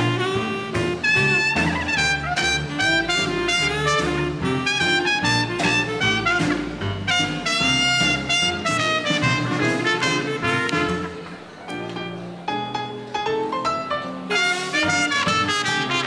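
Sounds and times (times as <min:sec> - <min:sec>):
trumpet: 0:00.0 - 0:11.3, 0:14.2 - 0:16.0
saxophone: 0:00.0 - 0:11.4, 0:14.3 - 0:16.0
swing band playing: 0:00.0 - 0:16.0
upright bass: 0:00.0 - 0:16.0.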